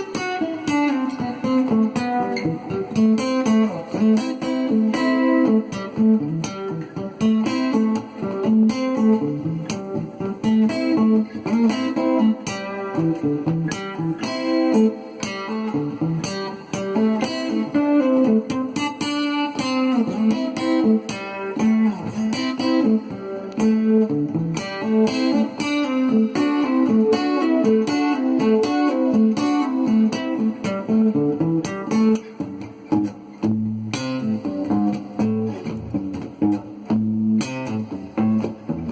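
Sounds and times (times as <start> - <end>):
acoustic guitar melody: 0.0 - 38.9.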